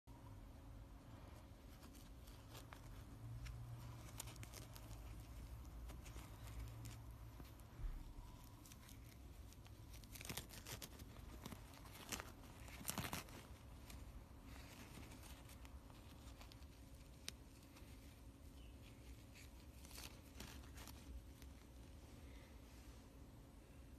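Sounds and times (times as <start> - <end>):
small crinkles: 1.0 - 23.2.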